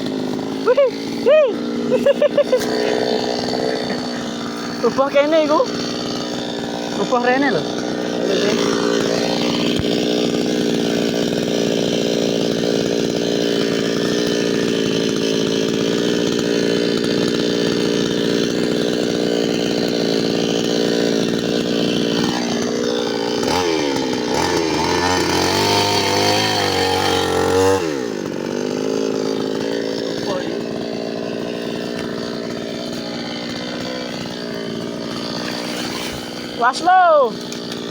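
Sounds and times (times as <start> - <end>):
chainsaw running: 0.0 - 37.9.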